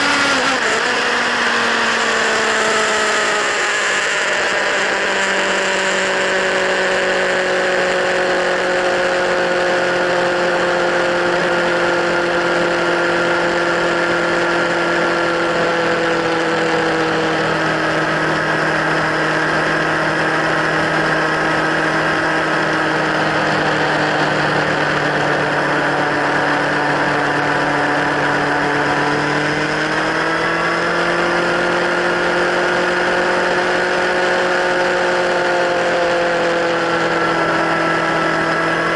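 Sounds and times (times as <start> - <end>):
motorcycle engine exhaust note: 0.0 - 38.9.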